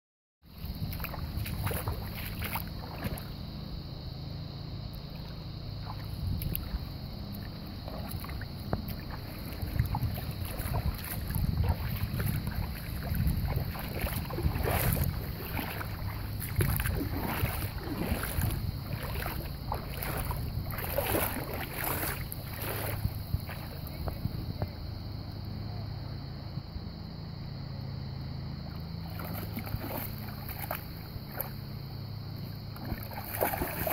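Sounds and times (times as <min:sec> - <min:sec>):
dog paddling through water: 0:00.5 - 0:03.6, 0:05.0 - 0:24.6, 0:28.7 - 0:33.9
light splashing and sloshing: 0:00.5 - 0:24.7, 0:28.6 - 0:33.9
wind rumble on microphone: 0:00.5 - 0:33.9.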